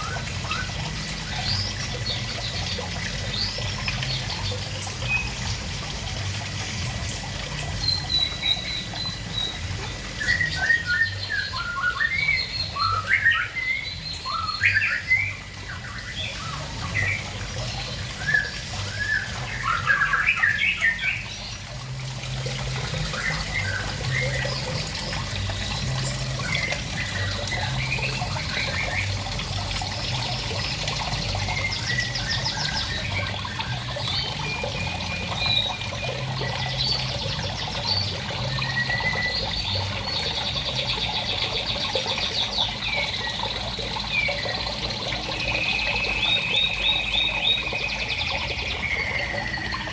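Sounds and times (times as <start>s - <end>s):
water trickling into pond: 0.0s - 49.9s.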